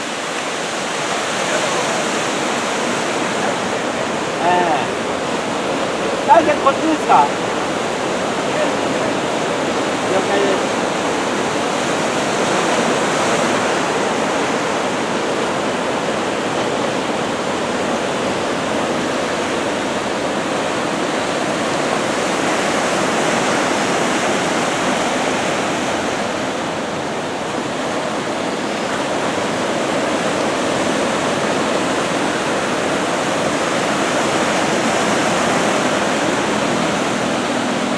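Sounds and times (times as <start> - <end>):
ocean surf washing ashore: 0.0 - 37.9.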